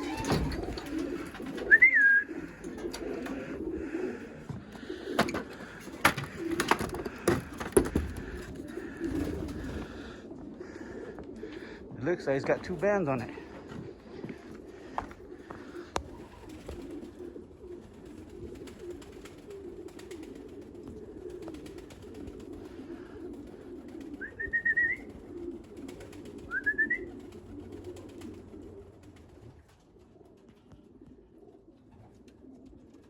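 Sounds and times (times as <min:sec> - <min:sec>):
pigeons cooing: 0:00.0 - 0:33.0.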